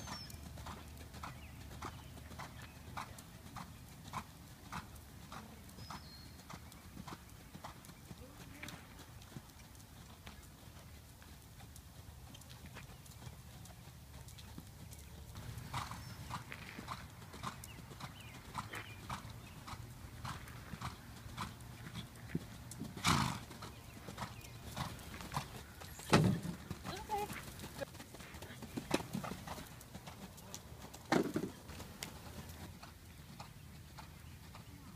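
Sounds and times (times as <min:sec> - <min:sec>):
horse trotting on sand: 0:00.0 - 0:34.9.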